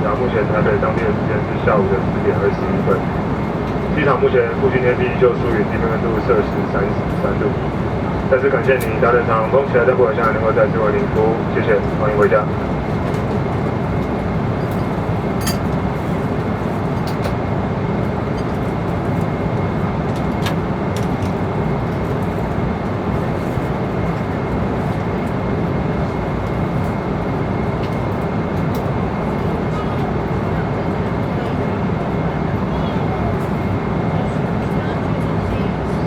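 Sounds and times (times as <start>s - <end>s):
airliner cabin engine and airflow noise: 0.0s - 36.0s.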